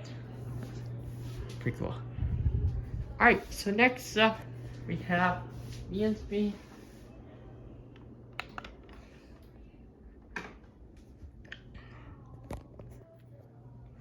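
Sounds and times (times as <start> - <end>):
ceiling fan humming: 0.0 - 14.0.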